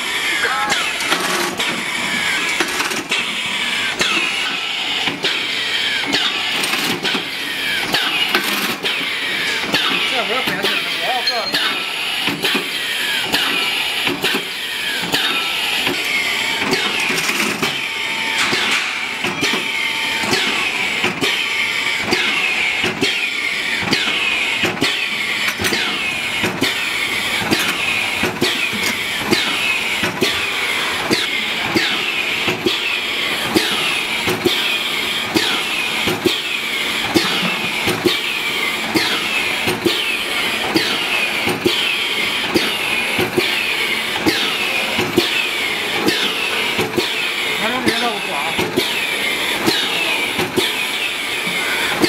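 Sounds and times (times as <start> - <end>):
peeling machine churning: 0.0 - 52.0.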